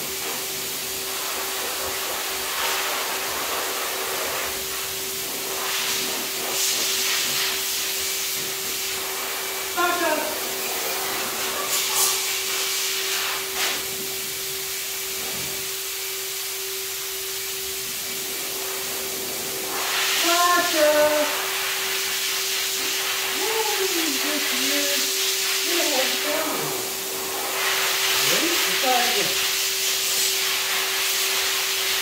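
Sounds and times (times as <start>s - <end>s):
fan-like machine hiss: 0.0s - 32.0s.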